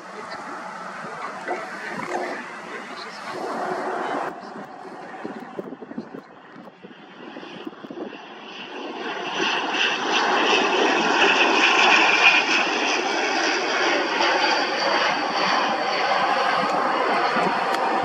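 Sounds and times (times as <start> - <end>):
turboprop airliner passing: 0.0 - 18.0.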